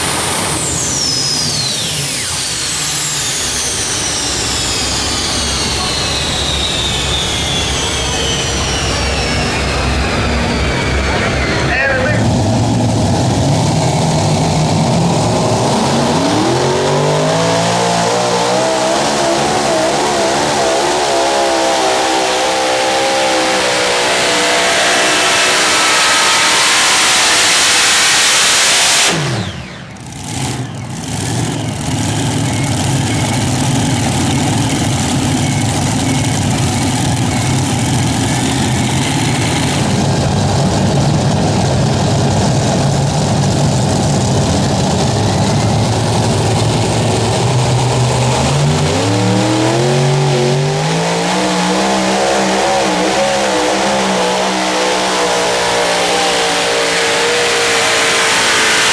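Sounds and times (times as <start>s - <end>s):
lower engine sound: 0.0s - 58.9s
tractor engines roaring: 0.0s - 58.9s.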